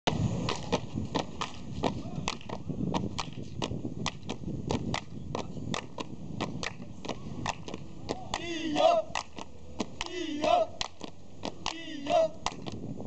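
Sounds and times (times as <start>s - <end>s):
sharp irregular claps: 0.5s - 12.8s.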